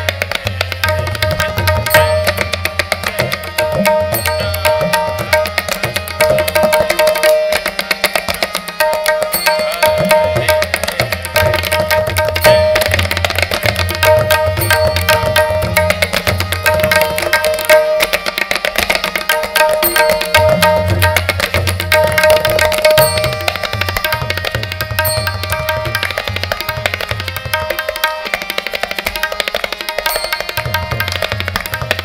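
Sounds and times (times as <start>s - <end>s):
harmonium melody: 0.0s - 32.0s
tabla drumming: 0.0s - 32.0s.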